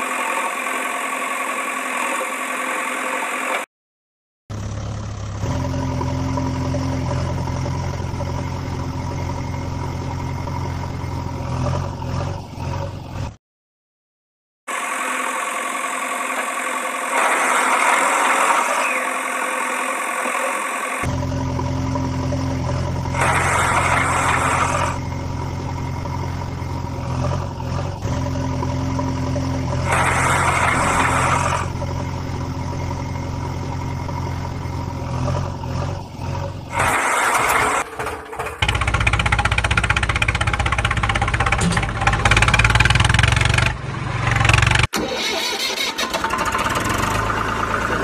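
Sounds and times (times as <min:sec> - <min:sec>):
heavy machine engine running: 0:04.5 - 0:13.4, 0:14.7 - 0:48.0.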